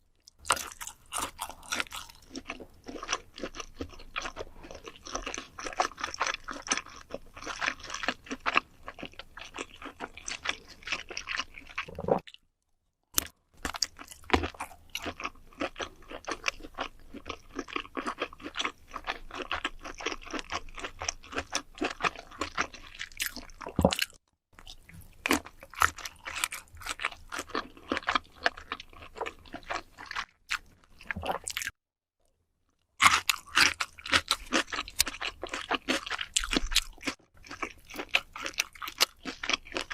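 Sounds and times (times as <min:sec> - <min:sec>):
person chewing crunchy food: 0:00.1 - 0:12.4, 0:13.2 - 0:31.8, 0:32.7 - 0:39.9.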